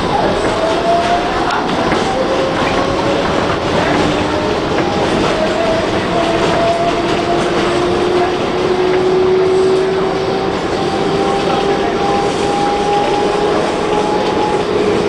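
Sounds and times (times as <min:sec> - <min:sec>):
rumble of train wheels on rail: 0:00.0 - 0:15.0.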